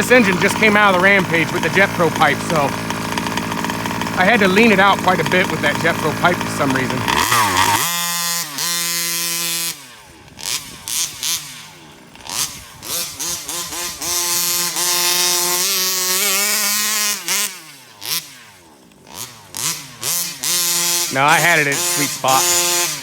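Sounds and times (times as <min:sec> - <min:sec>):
small two-stroke engine revving: 0:00.0 - 0:23.0.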